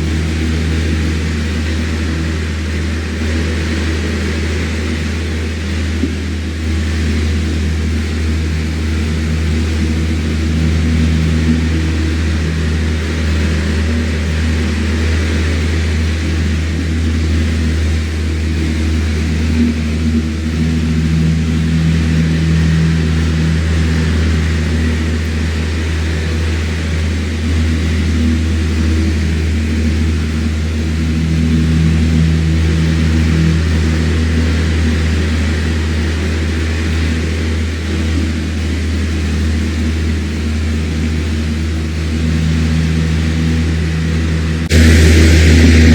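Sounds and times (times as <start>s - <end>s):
electric fan running: 0.0s - 45.9s.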